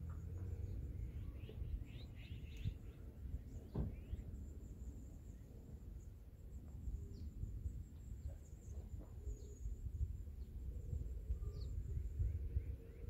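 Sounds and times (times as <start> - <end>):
faint bird chirps: 0.0 - 13.0
low outdoor rumble: 0.0 - 13.0.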